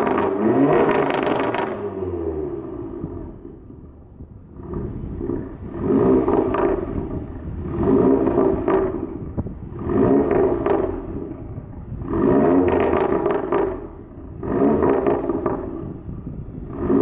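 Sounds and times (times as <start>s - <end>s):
car exhaust revving and popping: 0.0s - 17.0s.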